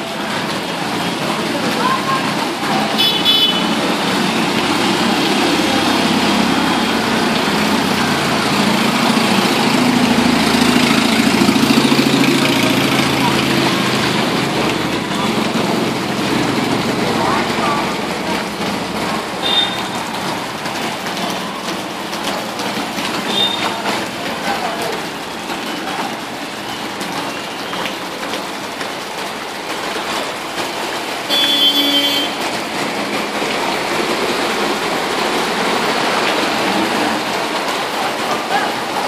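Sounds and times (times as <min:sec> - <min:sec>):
rain and floodwater rushing: 0:00.0 - 0:39.0.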